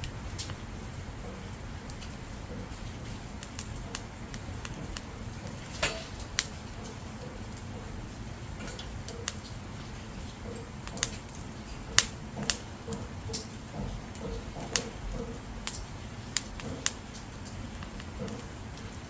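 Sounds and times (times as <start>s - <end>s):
firewood crackling and popping: 0.0s - 19.0s
low rumble of flames: 0.0s - 19.0s.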